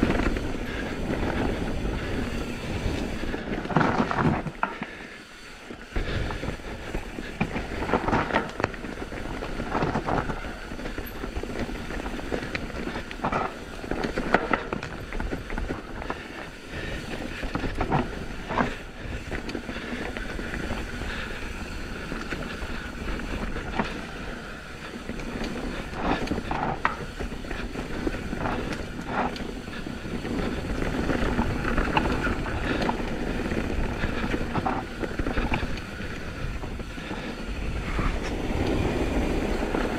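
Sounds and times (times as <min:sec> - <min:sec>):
bike rattling and knocking: 0:00.0 - 0:39.9
tyre and wind rumble: 0:00.0 - 0:39.9.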